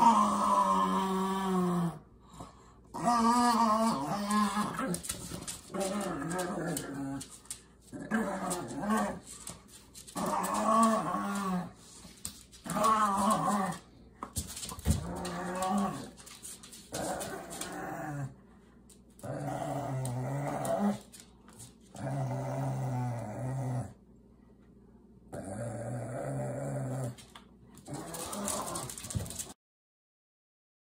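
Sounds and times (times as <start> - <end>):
dogs growling in play: 0.0 - 24.1, 25.3 - 29.6.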